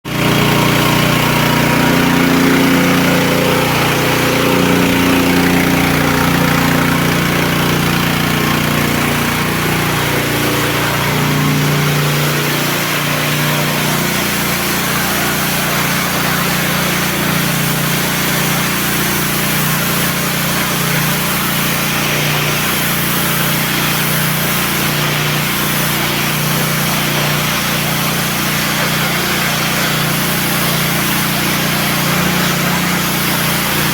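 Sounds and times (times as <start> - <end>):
pressure washer motor hum: 0.0 - 33.9.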